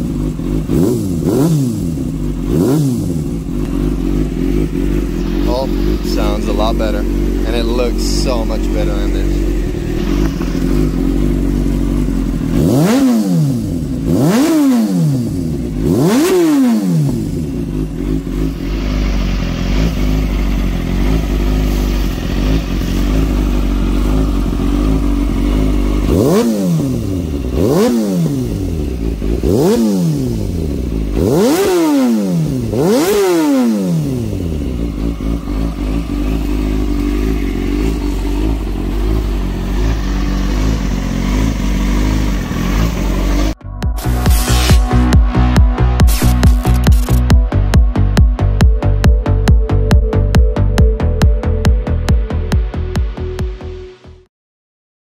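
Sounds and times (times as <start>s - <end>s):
motorcycle engine idling and revving: 0.0s - 54.3s.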